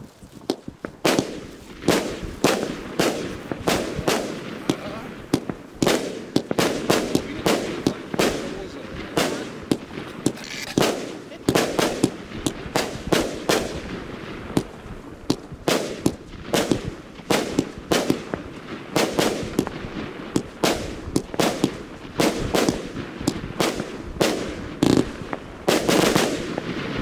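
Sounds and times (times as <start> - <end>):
firework cake bangs: 0.4 - 27.0.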